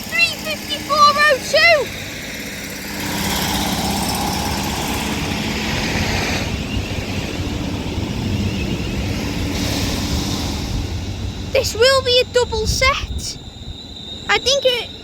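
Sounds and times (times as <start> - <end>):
train engine drone: 0.0 - 15.0
train rolling rumble: 0.0 - 15.0.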